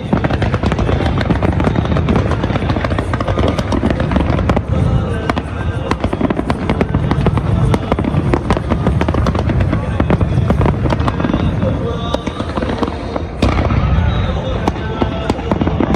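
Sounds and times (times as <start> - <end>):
fireworks bangs and crackles: 0.0 - 15.9.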